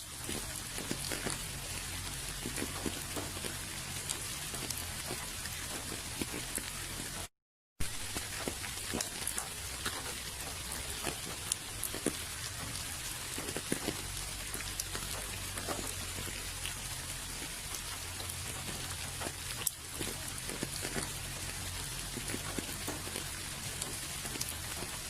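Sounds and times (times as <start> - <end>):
raindrops clicking close by: 0.0 - 25.0
steady rain: 0.0 - 25.0.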